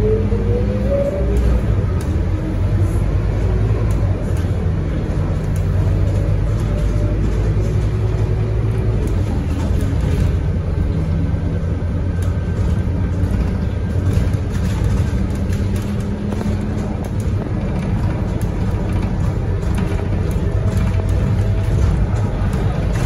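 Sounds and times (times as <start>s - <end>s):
bus diesel engine drone: 0.0s - 23.0s
road noise: 0.0s - 23.0s.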